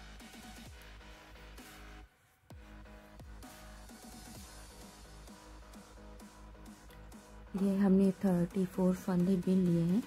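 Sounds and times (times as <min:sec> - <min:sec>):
quiet electronic music: 0:00.0 - 0:10.0.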